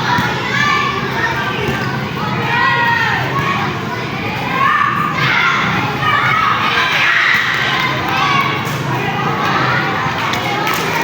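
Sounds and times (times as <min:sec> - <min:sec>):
crowd shouting and cheering: 0:00.0 - 0:11.0.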